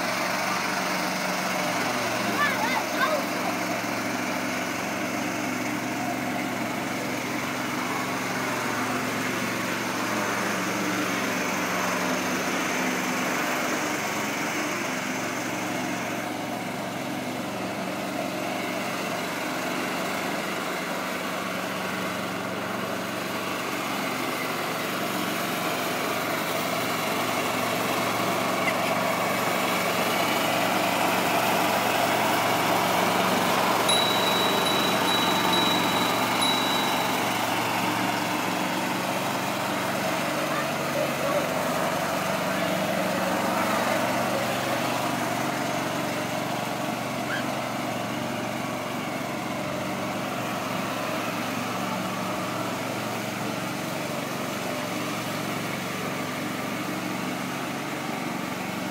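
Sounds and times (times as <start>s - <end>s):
small petrol engine running: 0.0s - 58.9s.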